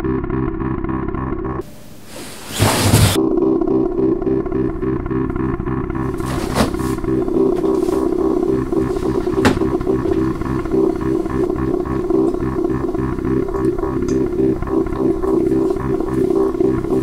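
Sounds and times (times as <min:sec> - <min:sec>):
low pulsing drone: 0:00.0 - 0:01.8, 0:02.9 - 0:17.0.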